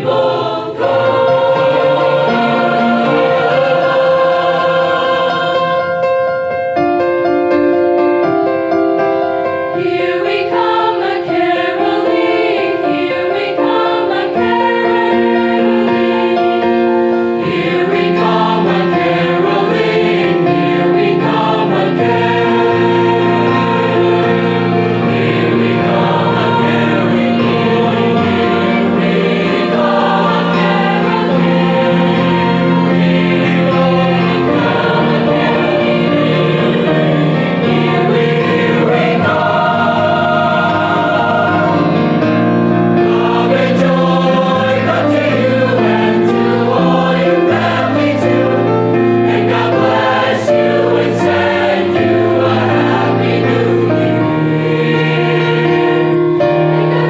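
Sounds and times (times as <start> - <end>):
choir singing held chords: 0.0 - 7.2, 8.5 - 57.0.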